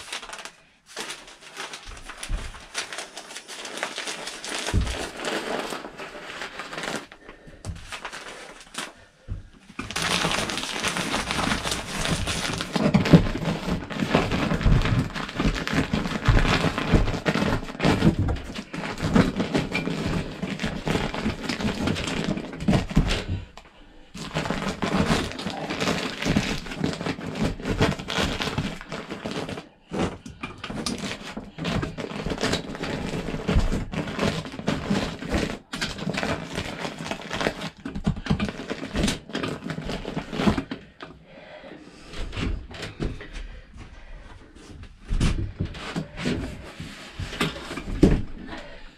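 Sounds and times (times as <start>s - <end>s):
cracks and knocks: 0.0s - 23.6s, 24.2s - 41.2s, 44.8s - 48.9s
insulation rustling and crinkling: 0.0s - 48.9s.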